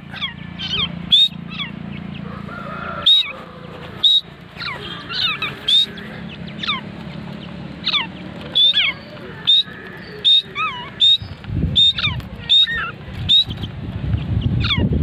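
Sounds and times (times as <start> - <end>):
birds calling shrilly: 0.0 - 15.0.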